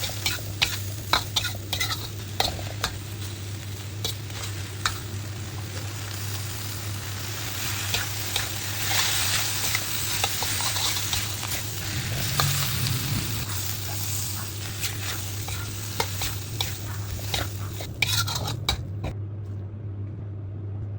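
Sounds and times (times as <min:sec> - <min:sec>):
metal spatula scraping a pan: 0:00.0 - 0:19.1
noodles sizzling in a pan: 0:00.0 - 0:19.1
steady low hum: 0:00.0 - 0:20.9.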